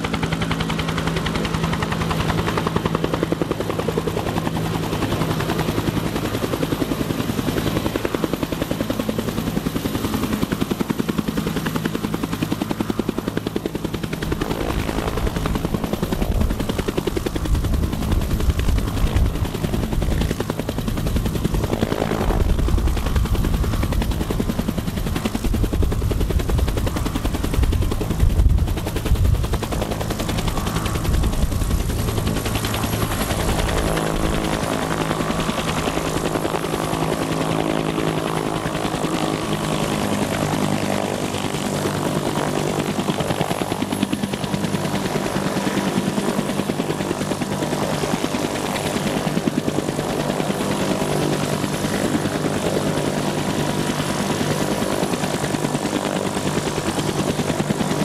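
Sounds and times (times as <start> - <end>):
helicopter rotor beating: 0.0 - 58.0.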